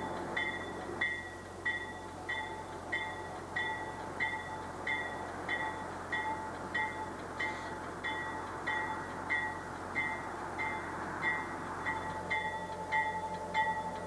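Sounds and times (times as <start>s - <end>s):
low rumble of train: 0.0s - 14.0s
railroad bell ringing: 0.0s - 14.0s.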